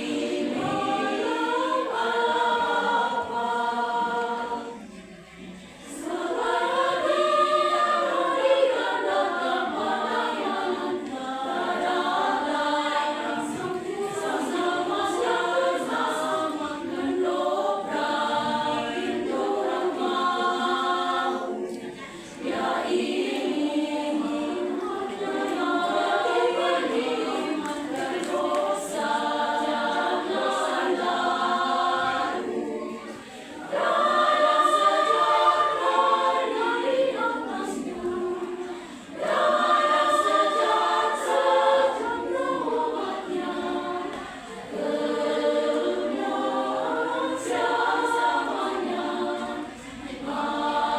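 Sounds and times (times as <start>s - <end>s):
women's choir singing a hymn: 0.0s - 50.9s.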